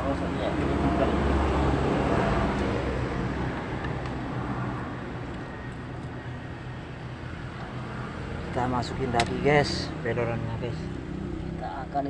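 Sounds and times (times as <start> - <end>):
motor vehicle low rumble: 0.0 - 12.0.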